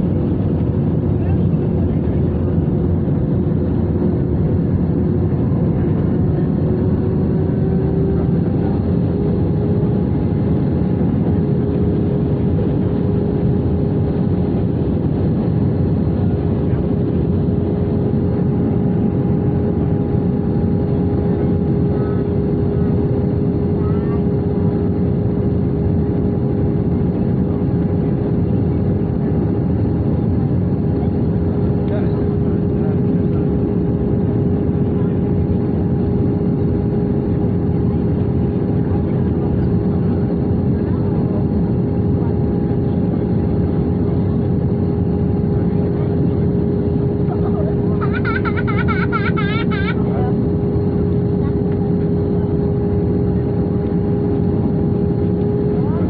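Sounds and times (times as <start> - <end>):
airplane cabin engine hum: 0.0 - 56.0.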